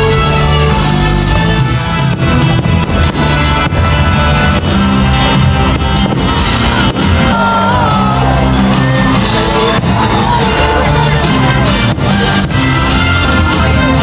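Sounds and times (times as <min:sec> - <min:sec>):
loud soundtrack music: 0:00.0 - 0:14.0.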